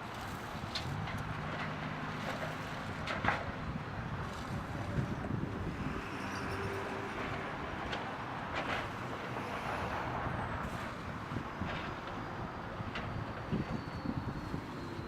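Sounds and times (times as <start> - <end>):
heavy diesel machinery rumbling: 0.4 - 15.0.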